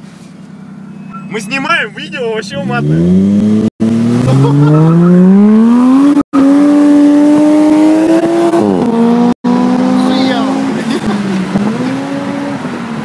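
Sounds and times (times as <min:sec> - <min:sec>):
car engine accelerating hard: 0:02.4 - 0:13.0.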